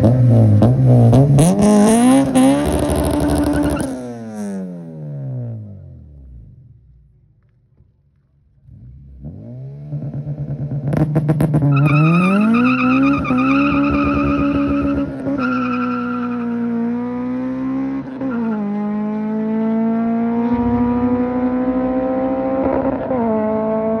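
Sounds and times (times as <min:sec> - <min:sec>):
car engine accelerating: 0:00.0 - 0:07.3, 0:08.4 - 0:24.0.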